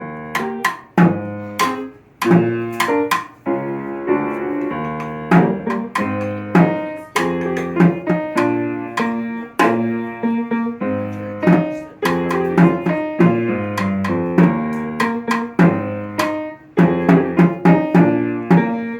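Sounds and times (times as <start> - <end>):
sharp percussion hits: 0.4 - 3.5, 5.2 - 10.0, 11.4 - 18.8.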